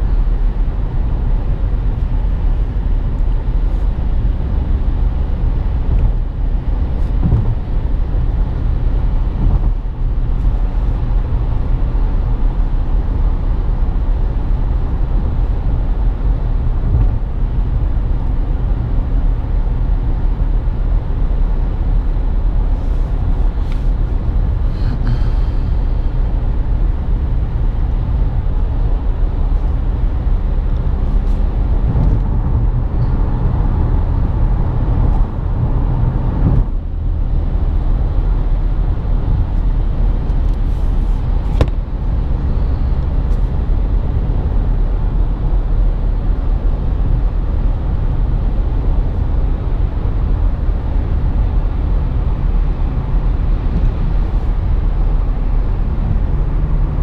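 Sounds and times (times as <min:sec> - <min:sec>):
car cabin road and wind noise: 0:00.0 - 0:57.0.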